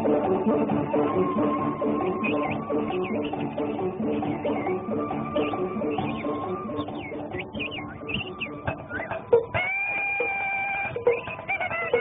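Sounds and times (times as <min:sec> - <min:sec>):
bouncy cartoon music: 0:00.0 - 0:12.0.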